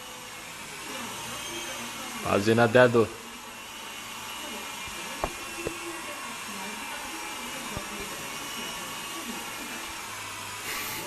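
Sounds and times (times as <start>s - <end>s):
toy helicopter rotor whirring: 0.0s - 11.0s.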